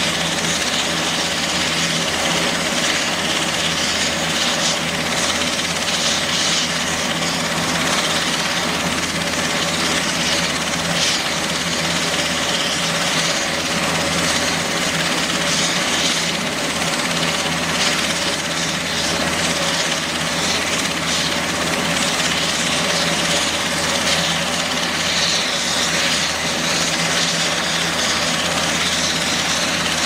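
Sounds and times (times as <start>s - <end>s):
helicopter rotor noise: 0.0s - 30.0s
helicopter turbine whine: 0.0s - 30.0s.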